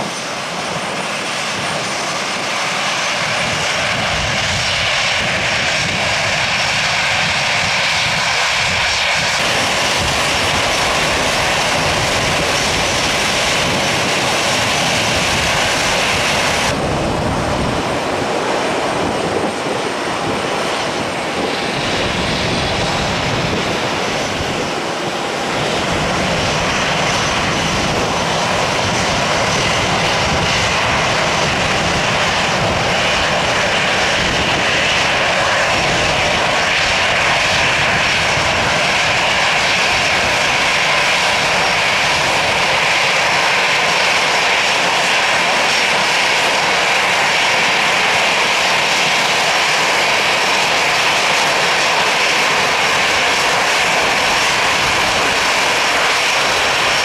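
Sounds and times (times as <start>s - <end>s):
jet engines whining at taxi: 0.0s - 57.0s.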